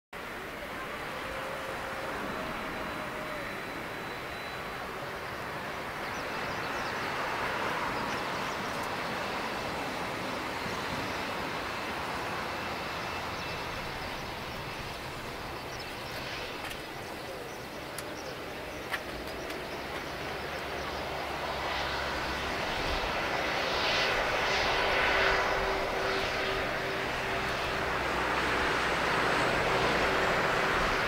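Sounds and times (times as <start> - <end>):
jet engines taxiing: 0.2 - 31.0.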